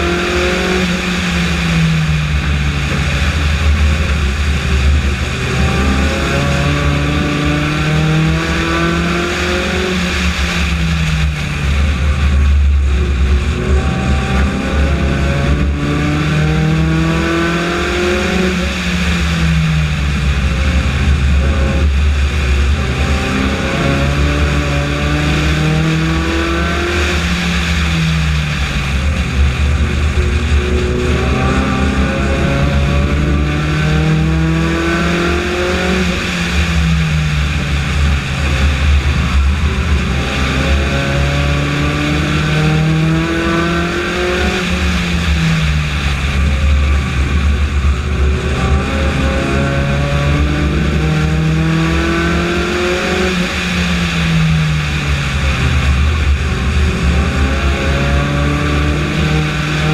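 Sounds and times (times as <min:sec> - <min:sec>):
race car engine revving: 0:00.0 - 0:59.9
road and wind rumble: 0:00.0 - 0:59.9.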